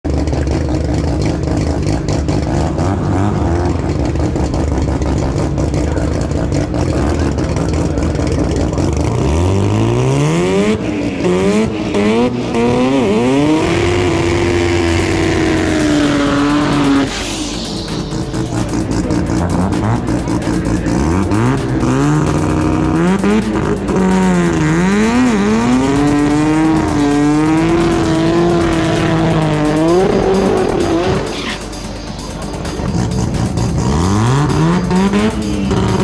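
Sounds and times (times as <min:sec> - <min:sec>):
drag car engine idling and revving: 0:00.0 - 0:36.0.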